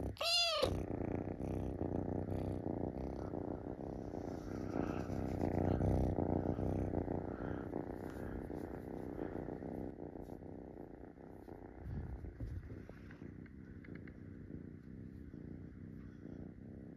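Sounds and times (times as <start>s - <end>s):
kitten purring: 0.0s - 16.9s.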